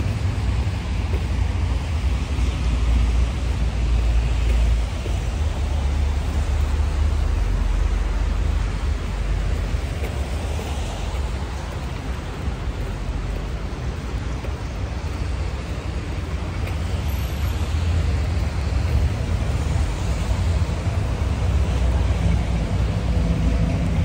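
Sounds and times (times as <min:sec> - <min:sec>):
cars passing: 0:00.0 - 0:24.0
road traffic rumble: 0:00.0 - 0:24.0.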